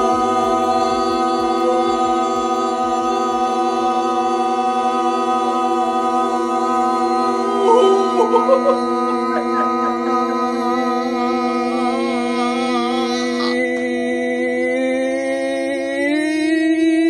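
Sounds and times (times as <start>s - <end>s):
man singing a long note: 0.0s - 17.0s.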